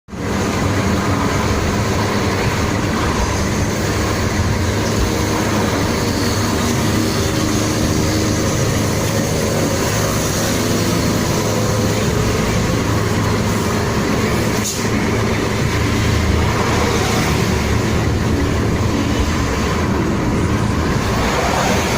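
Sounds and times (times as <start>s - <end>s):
vehicle engine hum and road noise: 0.1s - 21.9s.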